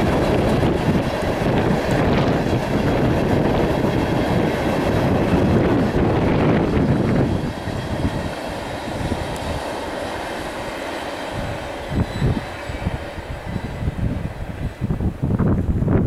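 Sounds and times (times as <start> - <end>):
freight train wheels rumbling on track: 0.0 - 16.0.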